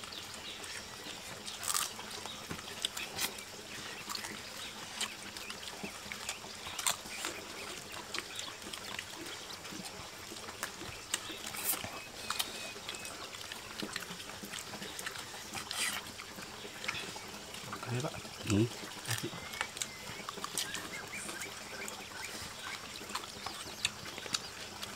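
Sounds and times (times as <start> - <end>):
people chewing and lip-smacking: 0.0 - 24.9.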